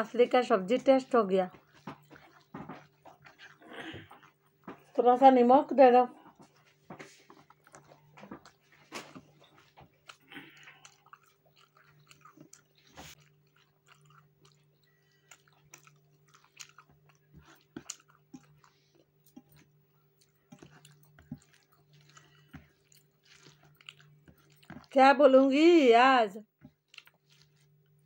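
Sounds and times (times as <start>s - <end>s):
person chewing: 1.5s - 4.9s, 6.3s - 25.0s, 26.5s - 28.0s.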